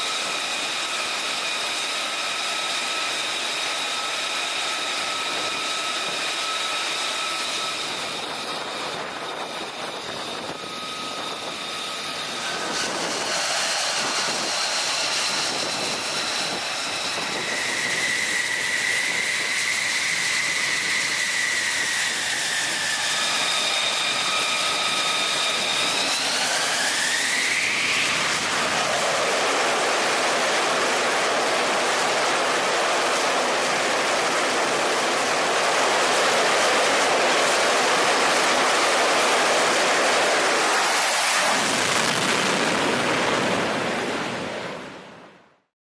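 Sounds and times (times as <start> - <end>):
jet engine turbine whine: 0.0 - 45.7
loud jet noise: 0.0 - 45.7.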